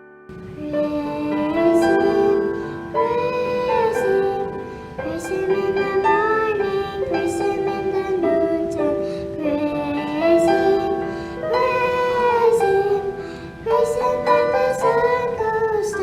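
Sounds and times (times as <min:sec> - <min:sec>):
sung melody: 0:00.0 - 0:16.0.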